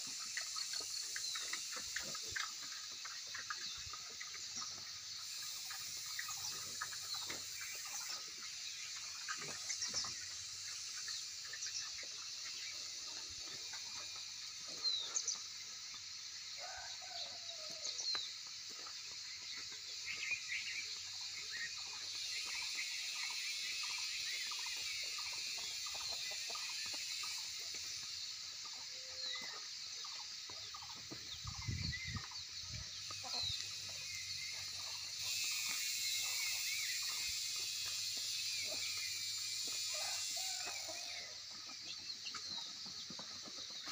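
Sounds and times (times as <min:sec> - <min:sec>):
bird chirps: 0:00.0 - 0:16.0, 0:16.6 - 0:43.9
chickens clucking: 0:00.0 - 0:43.9
steady high hiss: 0:00.0 - 0:43.9.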